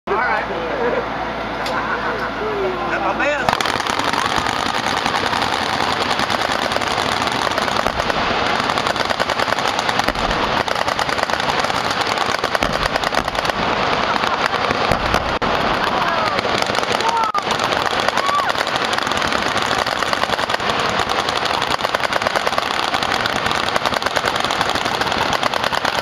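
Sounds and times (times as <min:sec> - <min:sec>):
machine guns firing: 0:03.3 - 0:26.0
deep explosion booms: 0:03.5 - 0:25.5.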